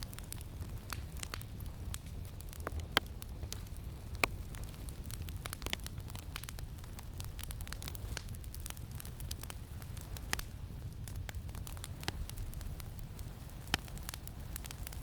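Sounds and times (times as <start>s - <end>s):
campfire crackling: 0.0s - 15.0s
low rumble of wind: 0.0s - 15.0s.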